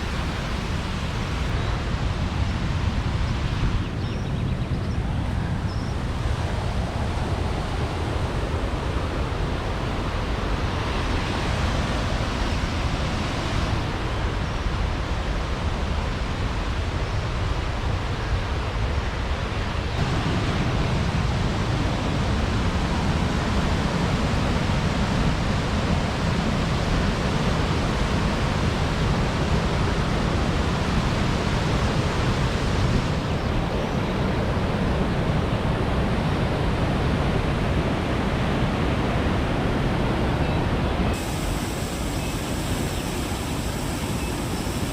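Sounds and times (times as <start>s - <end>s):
waterfall roaring: 0.0s - 1.6s, 7.0s - 44.9s.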